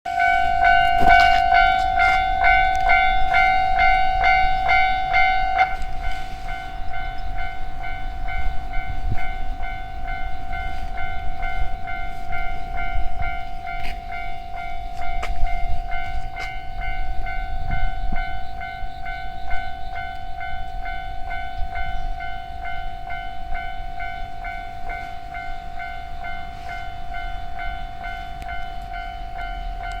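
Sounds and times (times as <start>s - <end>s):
level-crossing electronic bell: 0.1s - 30.0s
train rumbling past: 0.1s - 30.0s.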